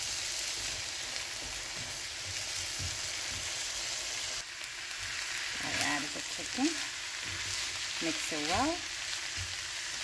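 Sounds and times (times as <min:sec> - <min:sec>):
stirring in frying pan: 0:00.0 - 0:10.0
vegetables sizzling in oil: 0:00.0 - 0:10.0.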